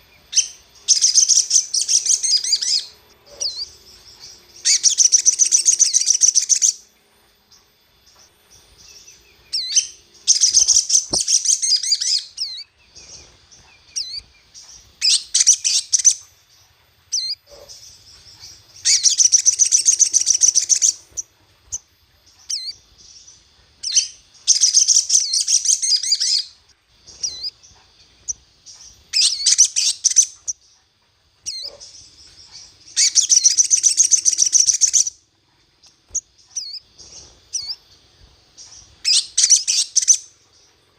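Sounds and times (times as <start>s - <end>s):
bird twittering: 0.0s - 40.8s
bird chirps: 0.0s - 40.9s.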